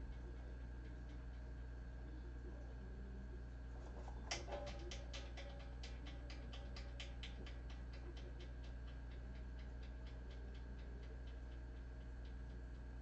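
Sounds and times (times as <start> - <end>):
kitten eating clicking: 0.0 - 2.0, 4.2 - 13.0
low electrical hum: 0.0 - 13.0.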